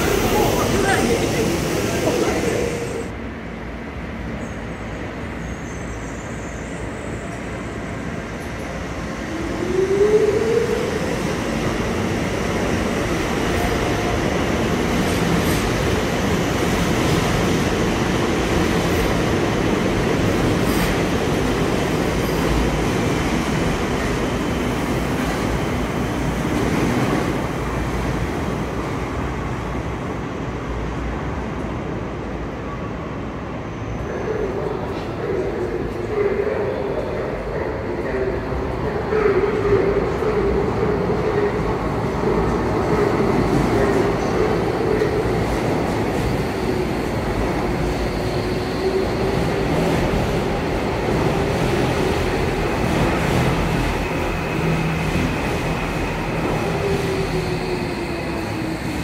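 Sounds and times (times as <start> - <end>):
train whine: 0.0 - 28.0, 33.6 - 59.0
rumble of train wheels and motors: 0.0 - 59.0.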